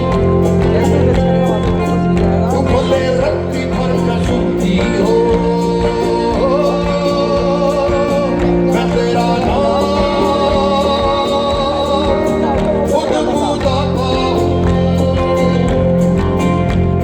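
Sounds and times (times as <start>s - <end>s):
guitar and bass: 0.0s - 17.0s
person singing long notes: 0.0s - 17.0s
steady drum beat: 0.0s - 17.0s.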